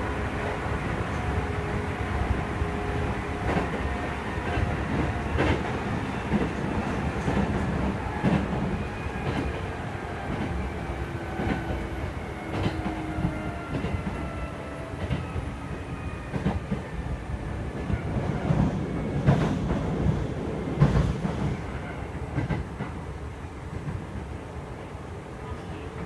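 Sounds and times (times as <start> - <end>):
train wheels rumbling: 0.0 - 24.4.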